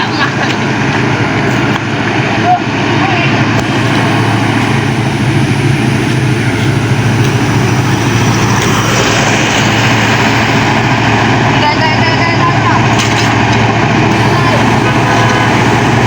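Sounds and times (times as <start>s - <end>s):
heavy truck engine running: 0.0s - 16.0s.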